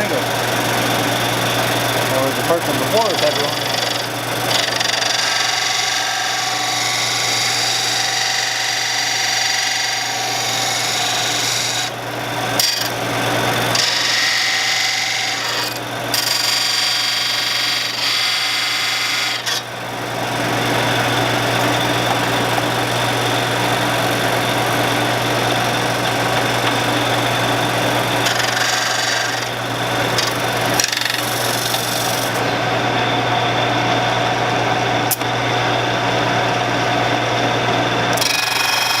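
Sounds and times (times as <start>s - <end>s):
tool grinding hiss: 0.0s - 32.6s, 38.1s - 39.0s
power grinder motor hum: 0.0s - 35.3s, 37.0s - 39.0s.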